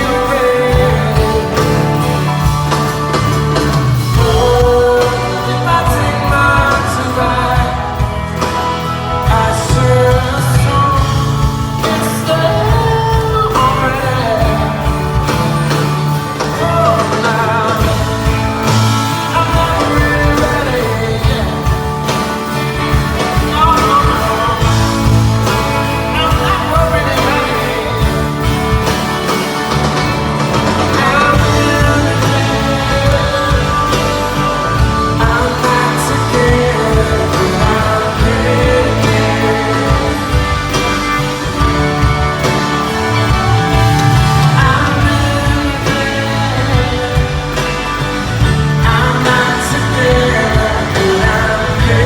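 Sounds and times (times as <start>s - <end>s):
bass guitar: 0.0s - 52.0s
drums: 0.0s - 52.0s
electric guitar: 0.0s - 52.0s
man singing lead vocal: 0.0s - 52.0s.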